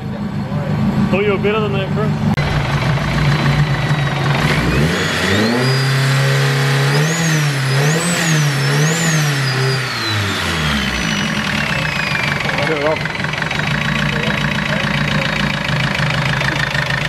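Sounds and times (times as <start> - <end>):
car engine revving: 0.0 - 17.0
high engine whine: 0.0 - 17.0.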